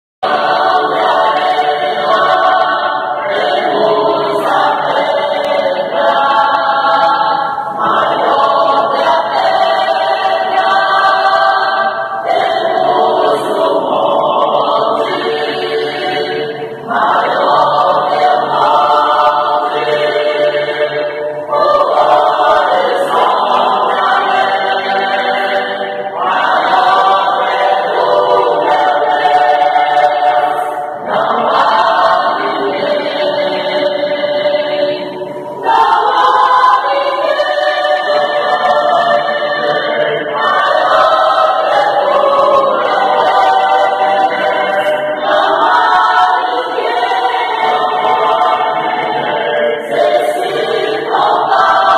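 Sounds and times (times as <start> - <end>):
mixed choir singing a hymn: 0.2 - 51.9.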